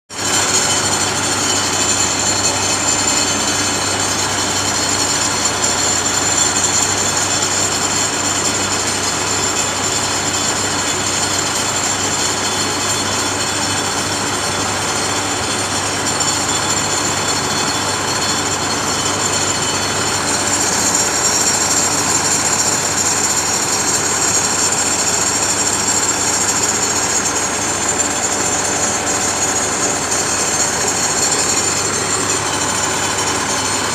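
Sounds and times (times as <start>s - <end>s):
pump engine running: 0.1s - 33.9s
high steady whine: 0.2s - 7.5s, 11.5s - 33.9s.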